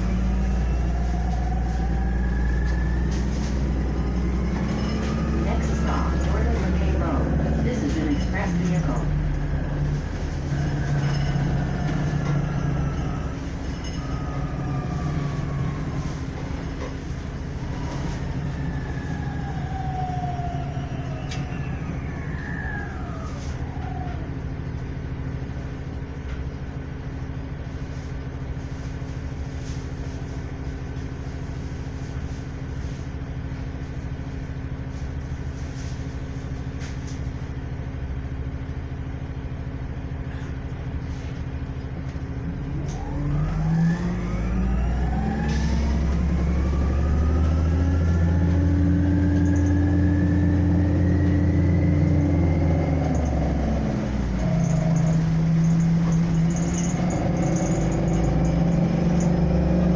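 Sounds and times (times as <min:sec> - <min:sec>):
bus drivetrain whining: 0:00.0 - 0:59.9
bus idling hum: 0:00.0 - 0:59.9.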